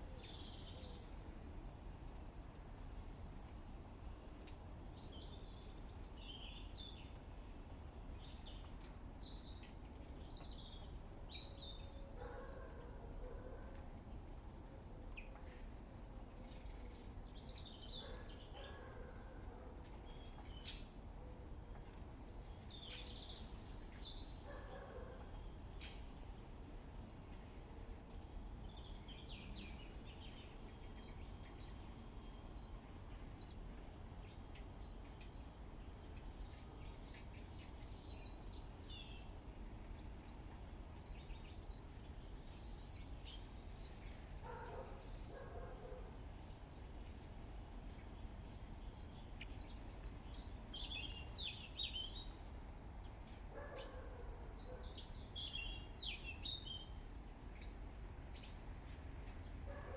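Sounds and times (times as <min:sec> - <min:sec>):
small birds chirping: 0:00.0 - 0:14.4, 0:15.1 - 0:59.9.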